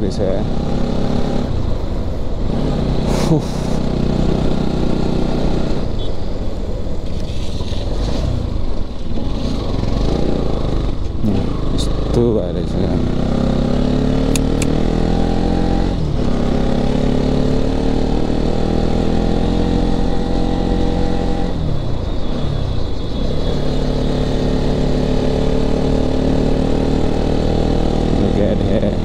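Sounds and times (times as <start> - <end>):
motorcycle engine accelerating: 0.0 - 6.0, 7.0 - 29.0.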